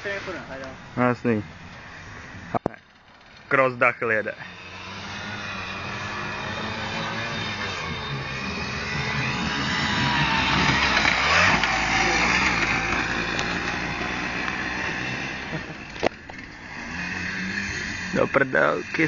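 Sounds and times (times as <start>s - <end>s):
motorcycle engine revving past: 1.2s - 19.0s.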